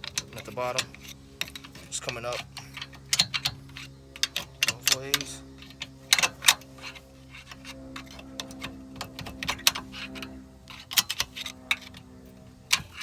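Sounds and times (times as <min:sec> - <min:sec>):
faint steady hum: 0:00.0 - 0:13.0
metal clicks and scraping: 0:00.0 - 0:13.0.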